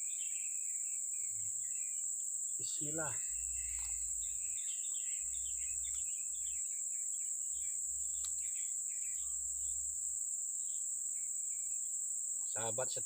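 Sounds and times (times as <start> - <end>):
bird chirps: 0.0 - 13.0
insects droning: 0.0 - 13.0.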